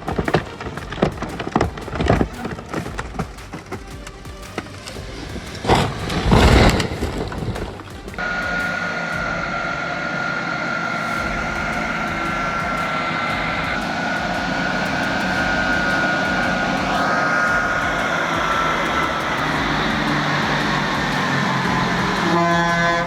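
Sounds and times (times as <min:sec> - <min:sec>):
machinery engine whining: 0:00.0 - 0:23.0.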